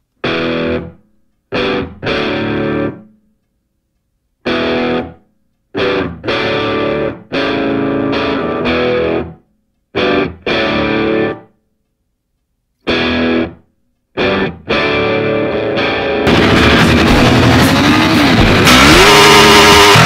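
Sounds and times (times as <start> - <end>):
distorted electric guitar chords: 0.2 - 3.2, 4.4 - 9.4, 10.0 - 11.5, 12.8 - 13.6, 14.2 - 20.0.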